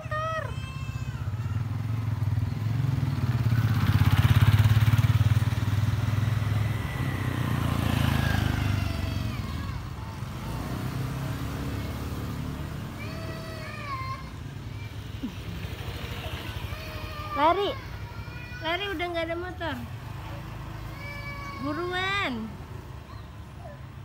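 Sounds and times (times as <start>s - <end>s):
motorbike engine passing: 0.0s - 24.0s.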